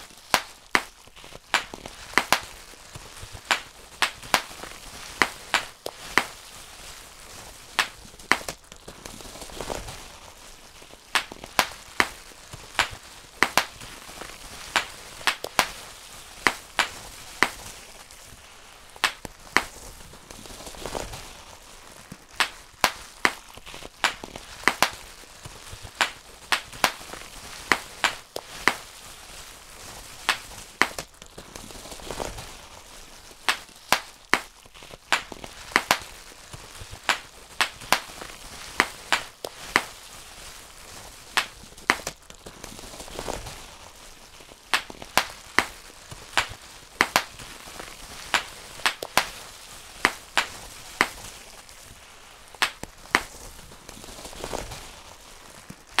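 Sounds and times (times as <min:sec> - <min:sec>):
bubble wrap popping: 0:00.0 - 0:56.0
plastic sheet rustling: 0:00.0 - 0:56.0.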